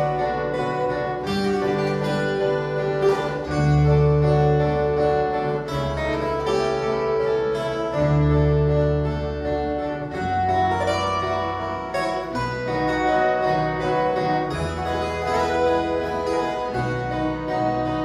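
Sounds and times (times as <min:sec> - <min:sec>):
low bass line: 0:00.0 - 0:18.0
plucked steel-string guitars: 0:00.0 - 0:18.0.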